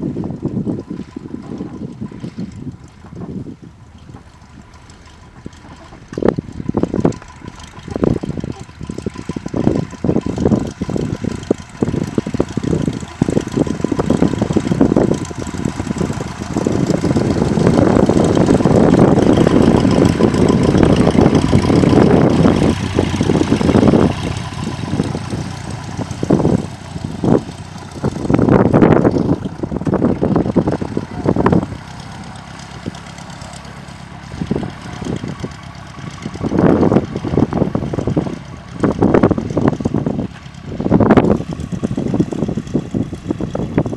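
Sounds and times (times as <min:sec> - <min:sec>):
airplane engine and propeller: 0:00.0 - 0:43.9.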